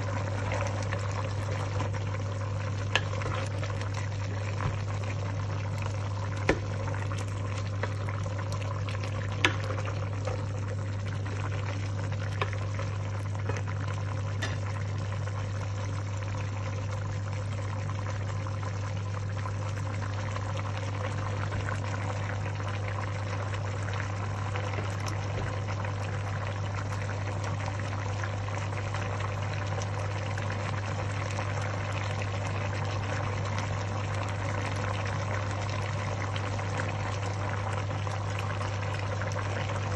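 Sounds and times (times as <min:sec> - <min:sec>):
pot of broth bubbling: 0:00.0 - 0:39.9.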